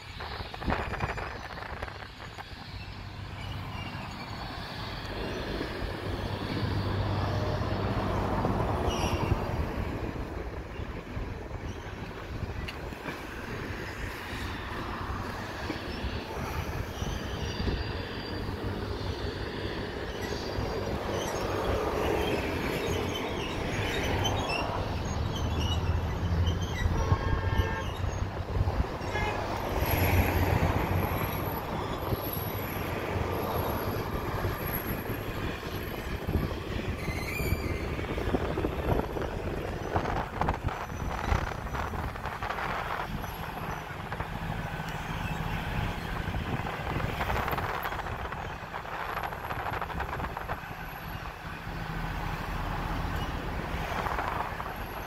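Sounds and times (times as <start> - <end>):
high wheel squeals: 0.0 - 55.0
low diesel engine hum: 0.0 - 55.0
train wheels rumbling over tracks: 0.0 - 55.0.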